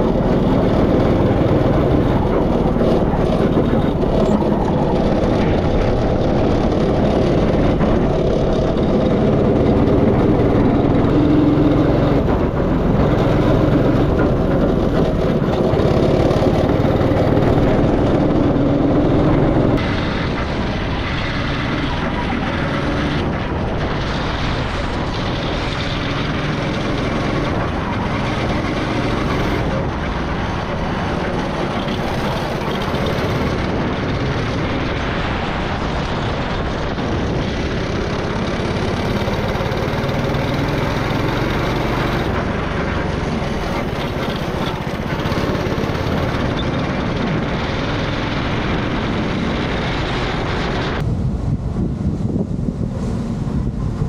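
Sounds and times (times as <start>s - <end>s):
go-kart engine running: 0.0s - 51.1s.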